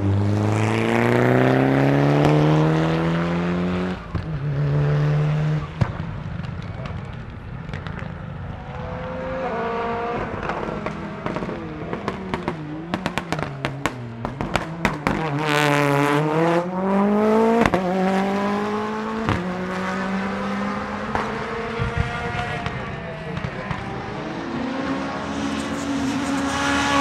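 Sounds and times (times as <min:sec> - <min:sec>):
rally car engine revving: 0:00.0 - 0:06.1, 0:06.7 - 0:27.0
exhaust bangs and crackles: 0:03.9 - 0:27.0.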